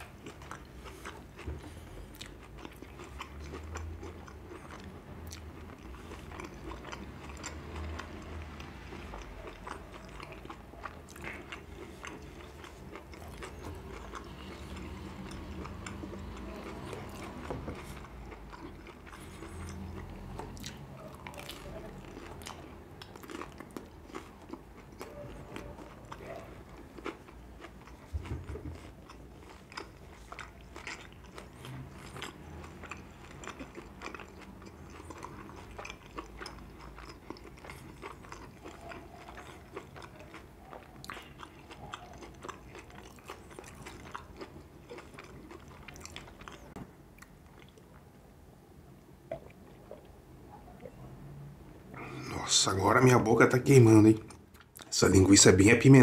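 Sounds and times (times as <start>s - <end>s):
biting and chewing bread: 0.0s - 48.1s.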